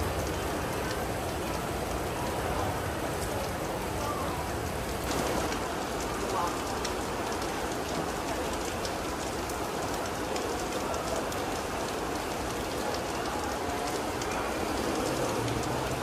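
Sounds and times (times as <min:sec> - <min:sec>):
raindrops ticking on surfaces: 0:00.0 - 0:16.0
steady rain falling: 0:00.0 - 0:16.0.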